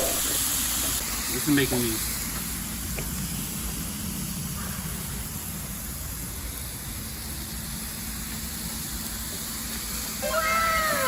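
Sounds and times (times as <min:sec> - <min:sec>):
burger patties sizzling: 0:00.0 - 0:11.0.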